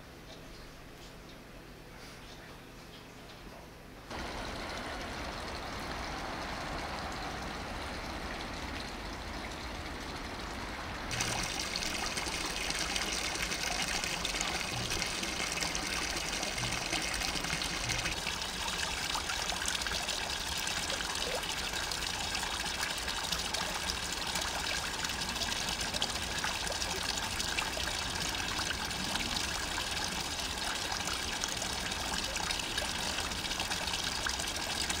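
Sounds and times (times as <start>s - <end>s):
water pouring into a pond: 4.1s - 35.0s.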